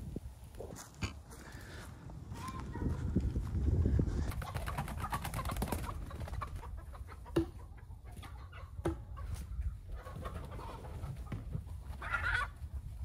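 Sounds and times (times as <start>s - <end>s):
chickens clucking: 0.5s - 13.0s.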